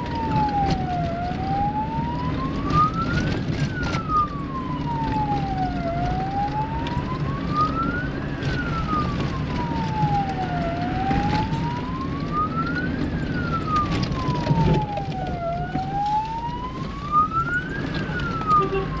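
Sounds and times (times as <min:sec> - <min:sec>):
siren wailing up and down: 0:00.0 - 0:19.0.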